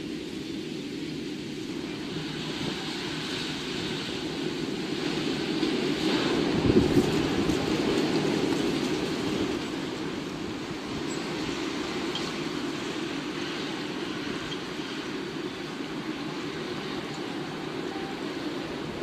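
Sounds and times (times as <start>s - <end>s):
rushing rumbling wind: 0.0s - 19.0s.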